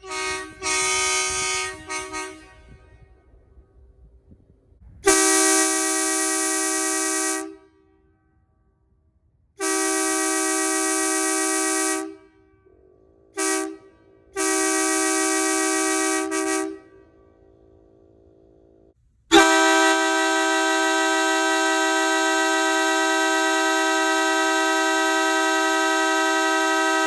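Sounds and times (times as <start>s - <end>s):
short truck horn toot: 0.0s - 3.7s, 5.0s - 8.0s, 9.6s - 12.8s, 13.4s - 18.2s, 19.3s - 27.0s
truck horn blasts: 0.0s - 3.9s, 5.0s - 8.0s, 9.6s - 27.0s.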